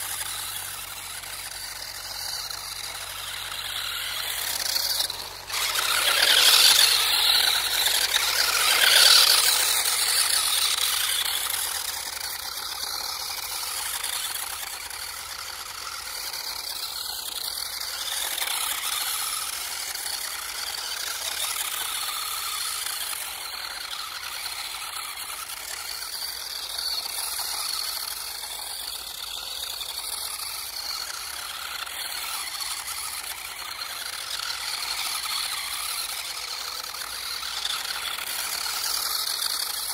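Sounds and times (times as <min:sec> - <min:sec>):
electric motor whine: 0:00.0 - 0:39.9
tyre and chassis noise: 0:00.0 - 0:39.9.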